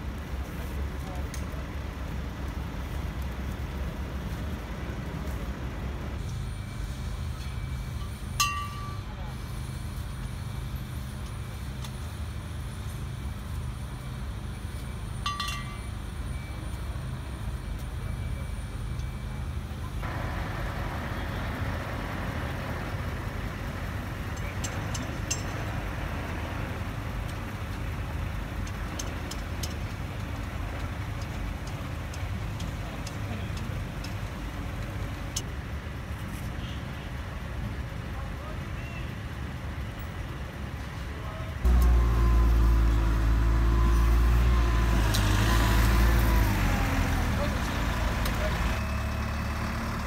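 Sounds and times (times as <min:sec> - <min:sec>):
heavy vehicle engine rumbling: 0:00.0 - 0:50.0.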